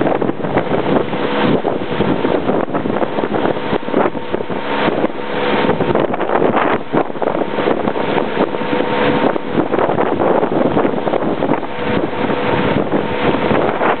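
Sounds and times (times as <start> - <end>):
boat motor running: 0.0 - 14.0
water rushing past hull: 0.0 - 14.0
wind buffeting microphone: 0.0 - 14.0.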